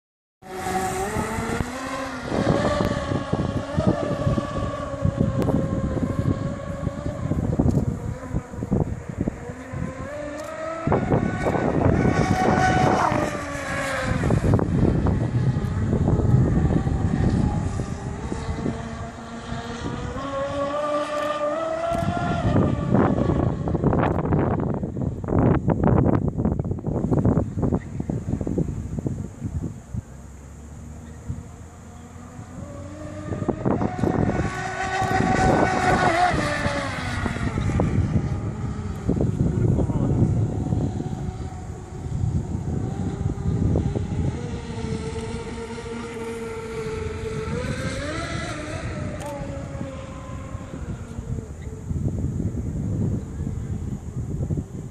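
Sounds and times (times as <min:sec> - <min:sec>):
rc boat motor whining: 0:00.4 - 0:54.9
wind on microphone: 0:00.4 - 0:54.9.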